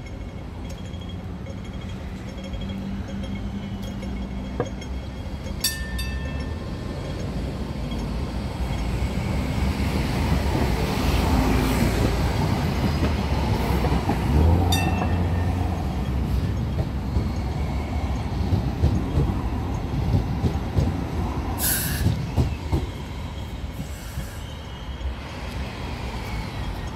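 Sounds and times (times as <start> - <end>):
light rail train motor and wheels: 0.0 - 26.9.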